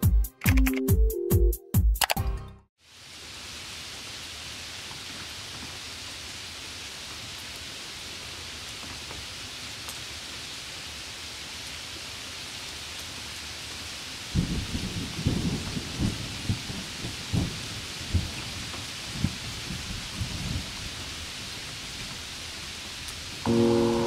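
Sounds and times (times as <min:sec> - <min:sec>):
hiss of falling water: 0:02.8 - 0:24.0.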